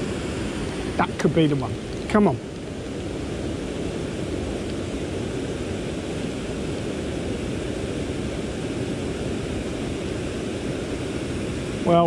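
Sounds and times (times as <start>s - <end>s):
fast-flowing river water rushing: 0.0s - 12.0s.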